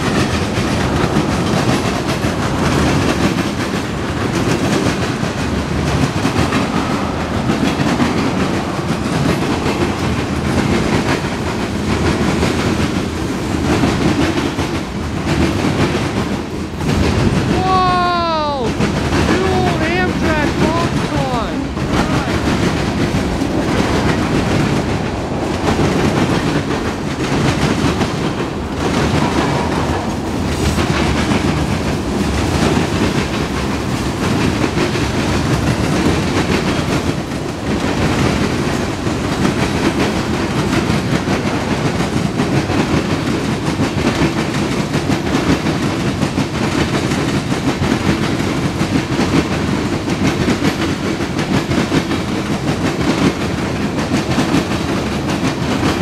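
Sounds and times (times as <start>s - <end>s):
wheels clicking over rail joints: 0.0s - 17.6s, 20.2s - 56.0s
steel wheels rumbling on rails: 0.0s - 56.0s.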